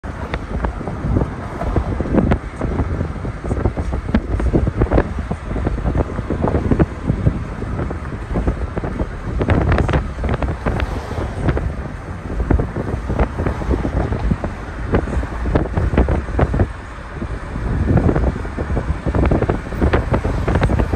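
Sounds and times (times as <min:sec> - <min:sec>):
road traffic noise: 0:00.0 - 0:20.9
wind buffeting microphone: 0:00.0 - 0:20.9.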